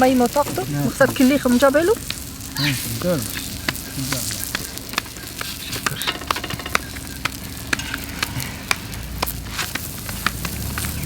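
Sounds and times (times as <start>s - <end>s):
food sizzling in hot oil: 0.0s - 11.0s
oil popping and crackling: 0.0s - 11.0s.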